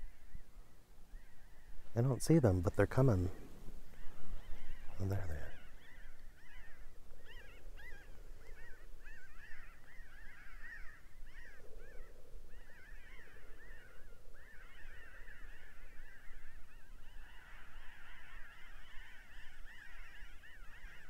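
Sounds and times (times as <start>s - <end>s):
jays calling: 1.1s - 21.0s.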